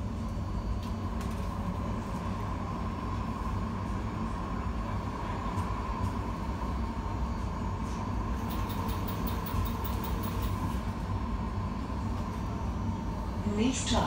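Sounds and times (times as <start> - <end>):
tram low rumble: 0.0 - 14.0
tram whine: 0.0 - 14.0.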